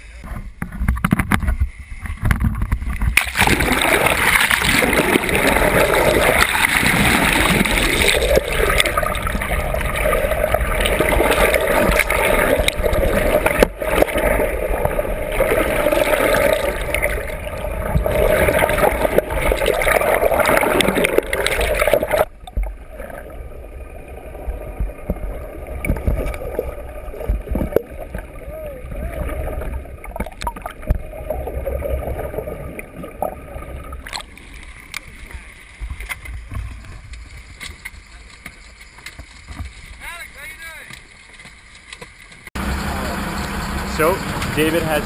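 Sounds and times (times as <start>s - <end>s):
seawater rushing and gurgling: 0.0s - 45.0s.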